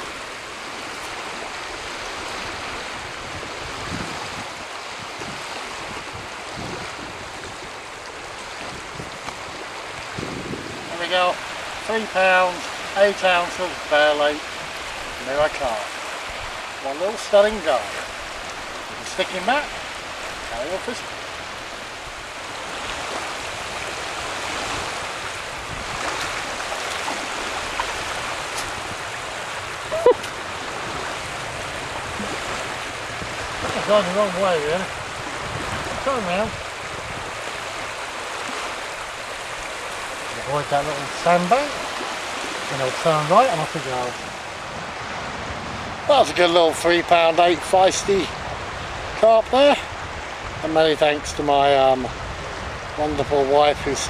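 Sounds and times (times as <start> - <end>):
lake waves lapping on shore: 0.0 - 54.0
wind rumble on microphone: 0.0 - 54.0.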